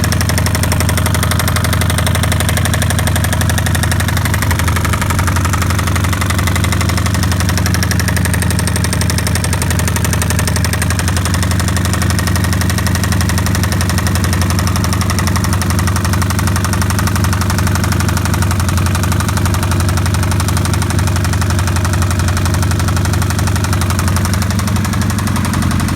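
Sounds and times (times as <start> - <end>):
motorcycle engine idling: 0.0 - 25.9
rhythmic engine knocking: 0.0 - 25.9.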